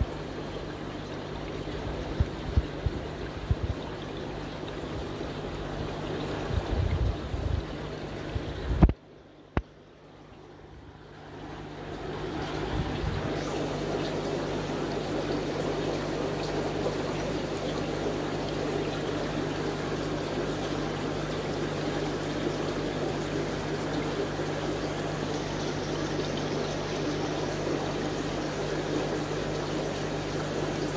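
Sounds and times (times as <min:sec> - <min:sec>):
constant low hum: 0:00.0 - 0:30.9
water trickling and bubbling: 0:00.0 - 0:30.9.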